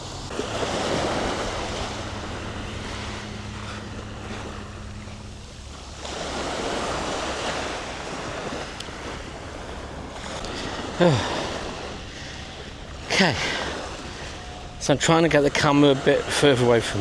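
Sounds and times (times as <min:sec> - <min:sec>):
waves on shingle beach: 0:00.0 - 0:17.0
wind buffeting microphone: 0:00.0 - 0:17.0.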